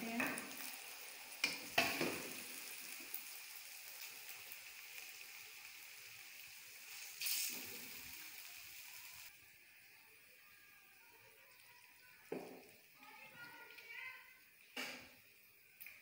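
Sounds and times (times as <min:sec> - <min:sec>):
faint sizzling: 0:00.0 - 0:16.0.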